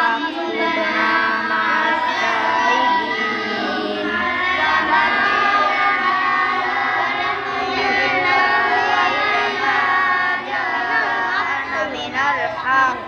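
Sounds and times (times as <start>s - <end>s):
boys chanting in unison: 0.0s - 13.0s.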